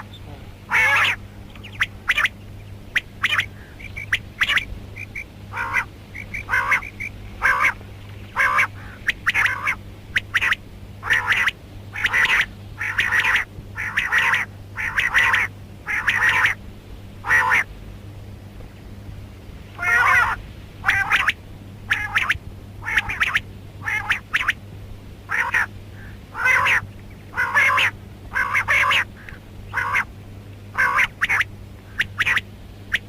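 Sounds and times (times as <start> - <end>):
quail harsh call: 0.0 - 16.6, 17.2 - 17.7, 19.8 - 24.6, 25.3 - 30.1, 30.7 - 33.0
steady low hum: 0.0 - 33.0.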